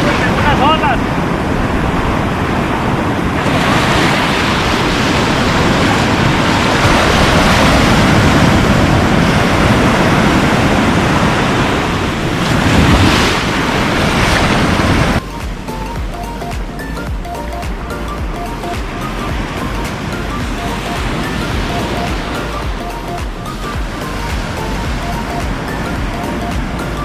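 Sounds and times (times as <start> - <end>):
surf breaking on shore: 0.0 - 27.0
wind buffeting microphone: 0.0 - 27.0.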